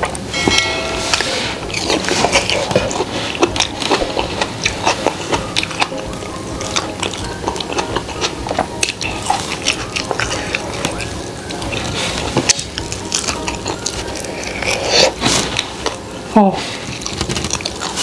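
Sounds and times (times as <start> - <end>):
crunching fried chicken: 1.0 - 18.0
wet chewing: 1.0 - 18.0.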